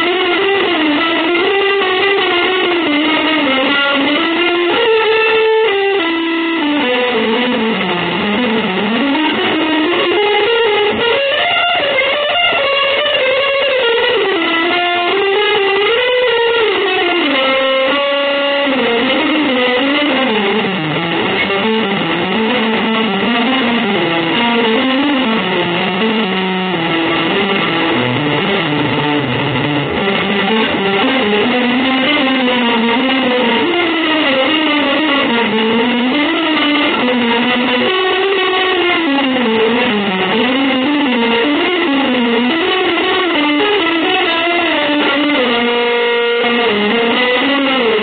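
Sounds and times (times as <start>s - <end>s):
electric guitar melody: 0.0s - 48.0s.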